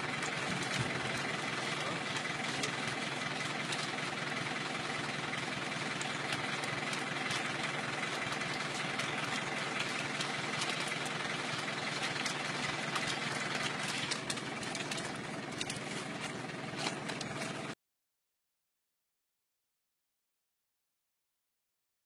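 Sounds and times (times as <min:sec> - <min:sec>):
engine running: 0:00.0 - 0:17.8
rustling: 0:00.0 - 0:17.8.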